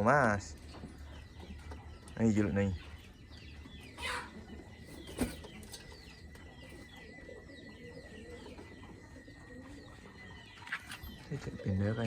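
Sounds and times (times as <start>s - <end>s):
pigeons cooing: 0.0s - 12.0s
small birds chirping: 0.0s - 12.0s.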